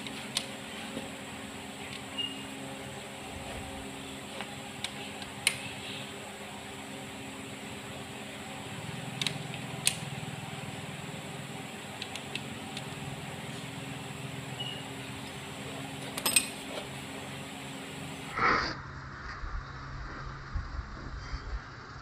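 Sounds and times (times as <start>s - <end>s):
steady workshop hum: 0.0s - 22.0s.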